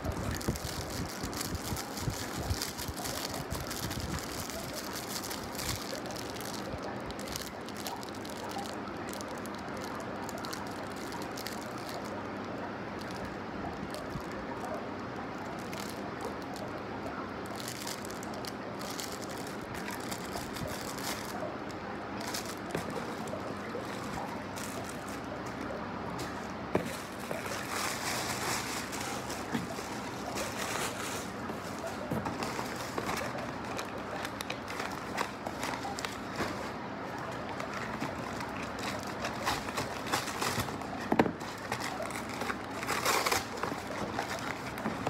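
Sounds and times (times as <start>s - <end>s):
packaging crinkling and rustling: 0.0s - 45.0s.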